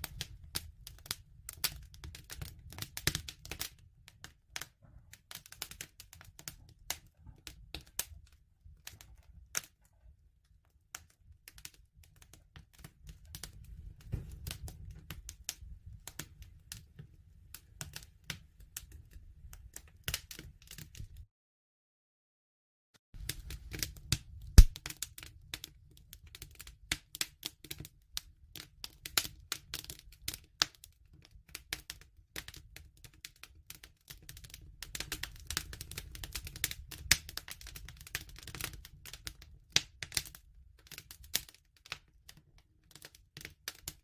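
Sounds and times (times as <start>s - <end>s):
wood fire crackling: 0.0s - 21.2s, 23.2s - 44.0s.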